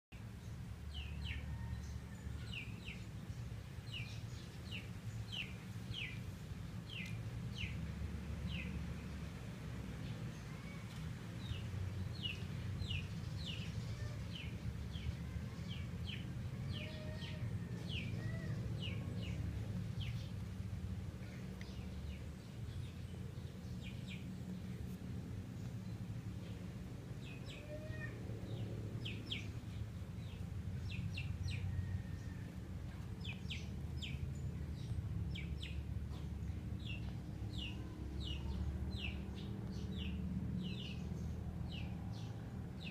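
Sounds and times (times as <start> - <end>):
birds chirping: 2.4 - 7.9, 10.0 - 42.9.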